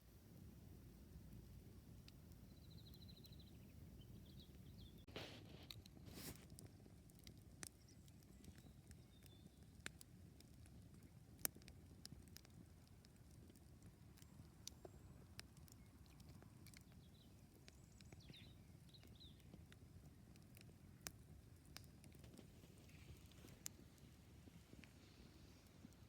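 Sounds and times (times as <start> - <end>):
campfire crackling: 0.0 - 26.0
faint low background noise: 0.0 - 26.0.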